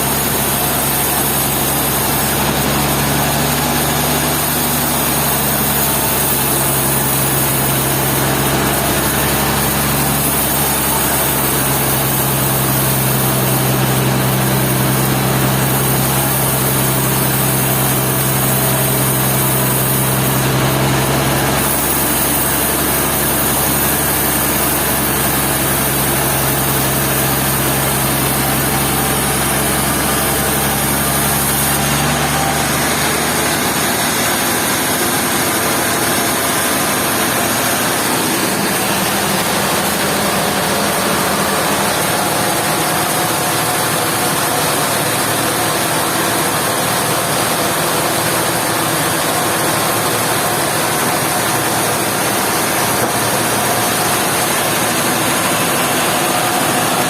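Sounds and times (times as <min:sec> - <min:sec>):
sawmill machinery humming: 0:00.0 - 0:57.0.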